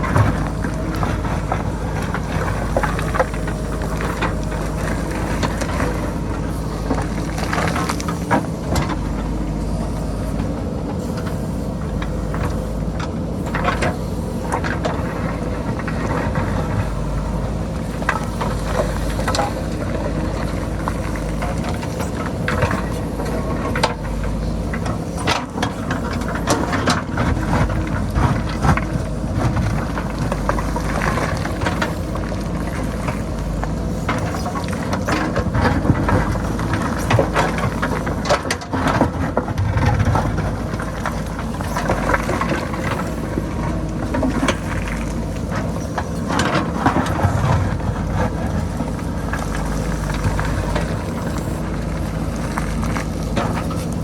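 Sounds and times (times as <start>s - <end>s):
diesel engine under load: 0.0s - 54.0s
rocks scraping and tumbling: 0.0s - 54.0s.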